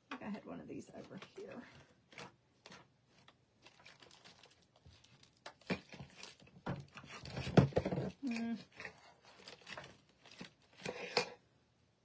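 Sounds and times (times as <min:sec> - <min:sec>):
rustling of craft objects: 0:00.0 - 0:11.4.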